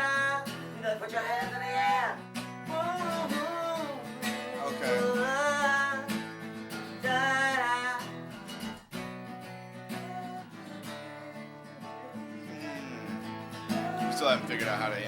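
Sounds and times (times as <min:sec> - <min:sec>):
person singing wordless phrases: 0:00.0 - 0:06.3, 0:06.9 - 0:08.1, 0:09.9 - 0:15.0
acoustic guitar strumming: 0:00.0 - 0:15.0.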